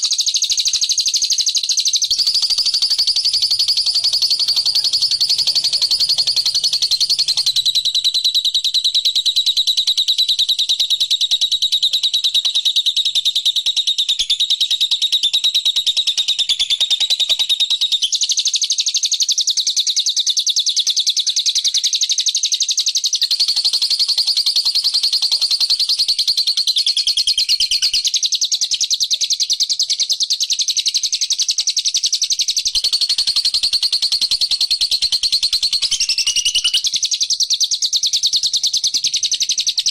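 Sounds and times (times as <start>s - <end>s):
rapid high-pitched bird trill: 0.0s - 15.2s, 21.3s - 39.9s.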